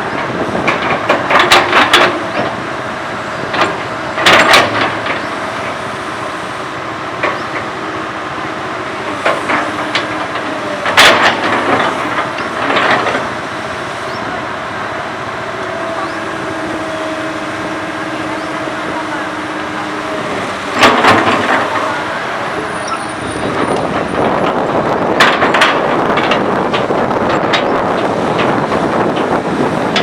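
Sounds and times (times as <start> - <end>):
excavator diesel engine droning: 0.0 - 30.0.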